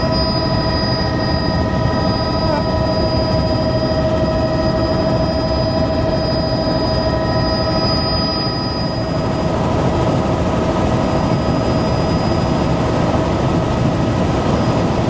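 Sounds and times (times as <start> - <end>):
helicopter rotor and engine rumble: 0.0 - 15.0
steady whining tones: 0.0 - 15.0.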